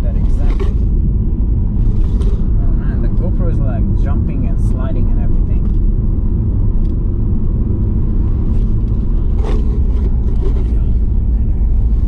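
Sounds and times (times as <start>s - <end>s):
car engine and tyres rumble: 0.0s - 12.0s.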